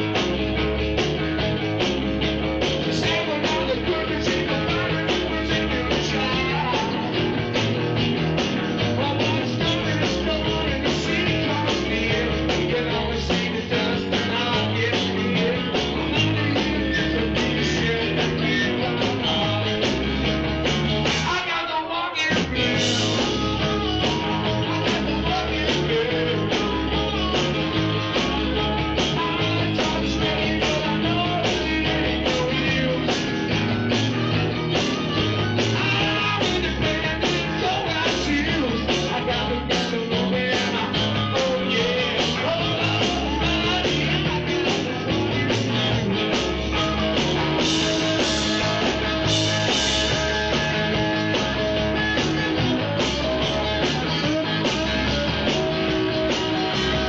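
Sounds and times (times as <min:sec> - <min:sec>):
steady drum beat: 0:00.0 - 0:21.5, 0:22.3 - 0:57.0
blues band playing: 0:00.0 - 0:57.0.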